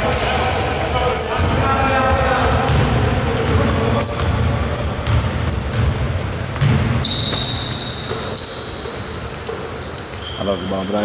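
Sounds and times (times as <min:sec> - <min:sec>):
sneakers squeaking on floor: 0:00.0 - 0:11.0
basketball dribbling on wooden court: 0:00.1 - 0:10.2.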